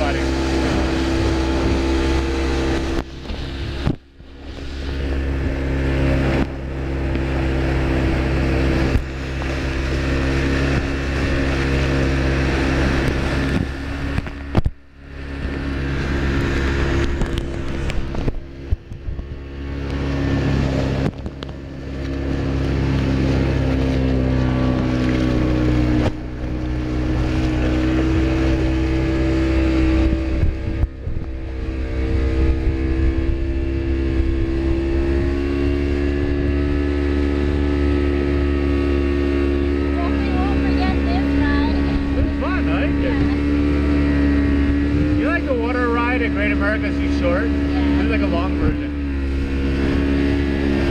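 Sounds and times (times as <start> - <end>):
motorboat engine running: 0.0 - 50.9
water rushing along hull: 0.0 - 50.9.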